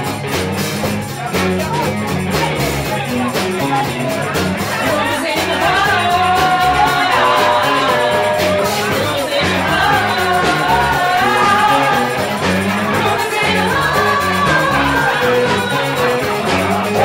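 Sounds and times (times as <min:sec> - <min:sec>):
bass: 0:00.0 - 0:17.0
drums: 0:00.0 - 0:17.0
person singing: 0:01.1 - 0:17.0.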